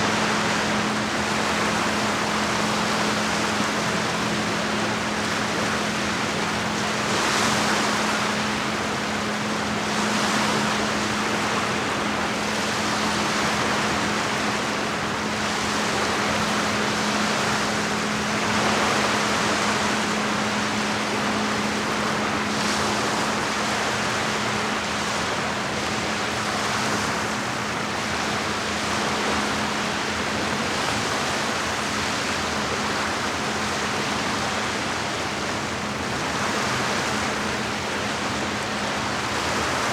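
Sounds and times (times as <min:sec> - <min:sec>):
waves washing against shore: 0:00.0 - 0:39.9.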